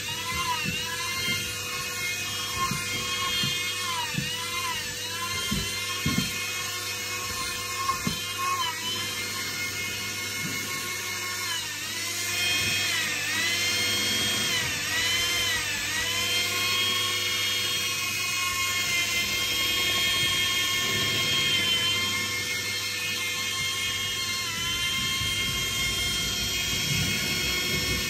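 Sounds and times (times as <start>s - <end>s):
high-pitched electric motor whine: 0.0s - 28.0s.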